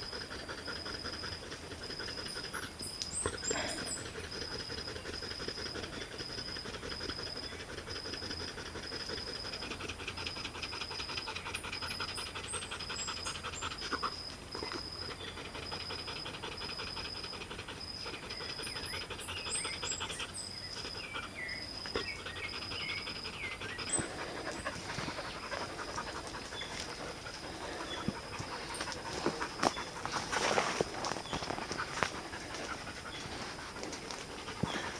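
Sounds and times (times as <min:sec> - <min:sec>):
dog panting: 0:00.0 - 0:34.9.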